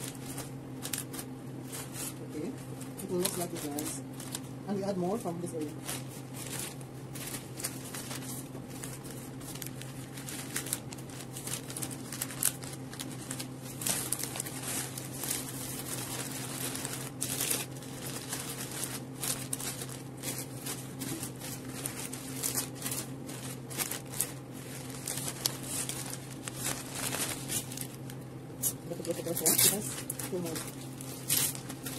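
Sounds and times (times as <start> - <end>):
steady low hum: 0.0 - 31.9
wrapping paper rustling: 0.0 - 31.9.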